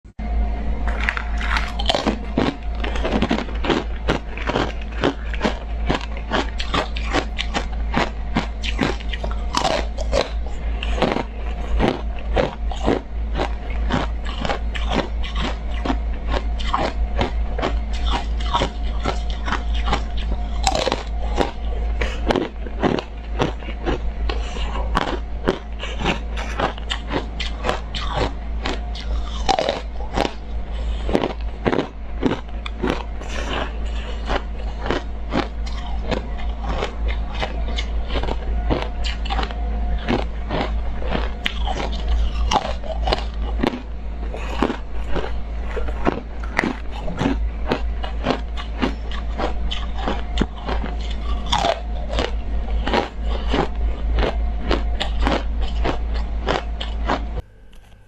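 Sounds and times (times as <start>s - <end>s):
steady low hum: 0.0s - 58.0s
ice being chewed: 0.9s - 57.9s.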